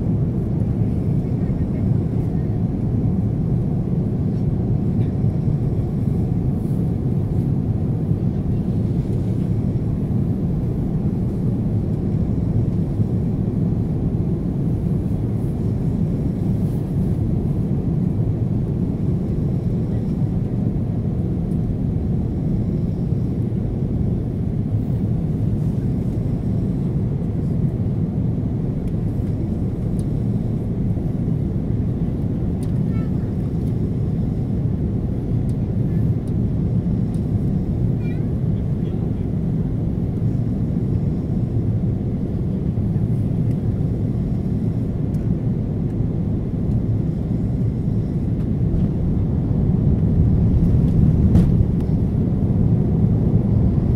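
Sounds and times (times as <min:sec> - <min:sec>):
jet cabin engine and airflow rumble: 0:00.0 - 0:53.9.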